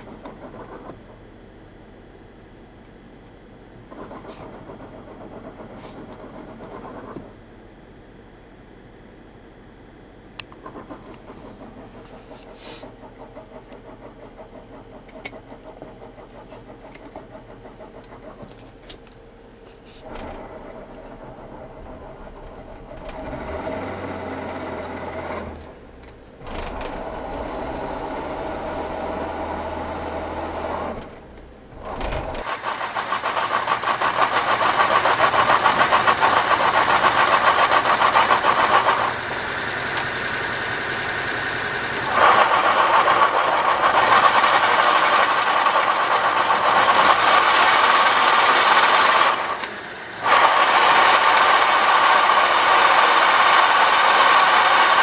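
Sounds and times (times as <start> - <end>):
car engine running: 0.0 - 19.4, 20.0 - 55.0
engine and drivetrain noise: 0.0 - 55.0.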